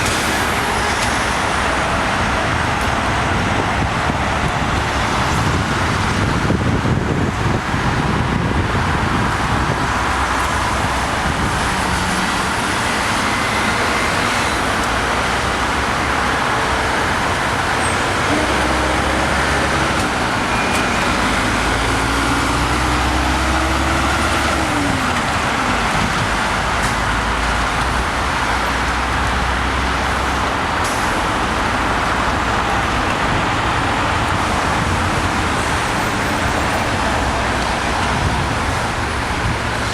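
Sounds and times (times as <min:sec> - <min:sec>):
freeway traffic noise: 0:00.0 - 0:39.9.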